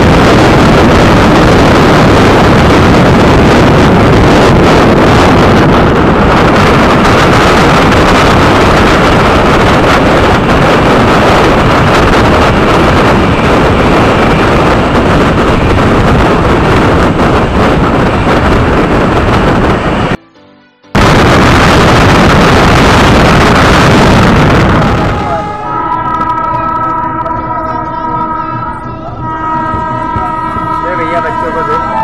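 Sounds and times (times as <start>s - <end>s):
train wheel and rail noise: 0.0s - 20.2s, 20.9s - 32.0s
wind buffeting microphone: 0.0s - 20.2s, 20.9s - 32.0s.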